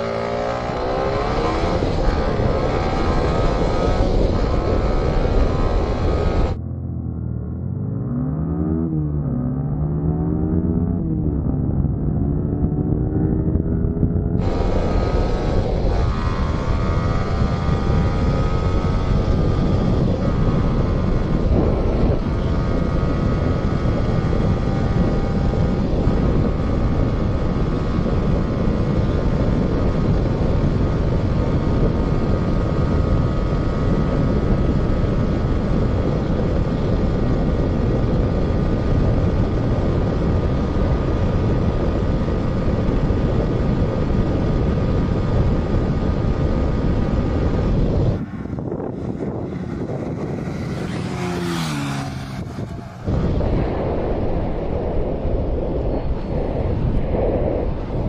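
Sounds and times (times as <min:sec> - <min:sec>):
motorcycle engine at high revs: 0:00.0 - 0:06.6, 0:08.0 - 0:54.4
wind rush on microphone: 0:00.0 - 0:06.6, 0:07.9 - 0:58.0.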